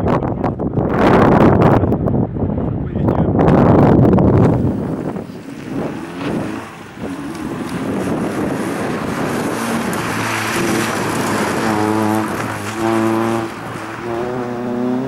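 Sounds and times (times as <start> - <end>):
wind buffeting microphone: 0.0 - 15.0
car engine running hard: 0.3 - 15.0.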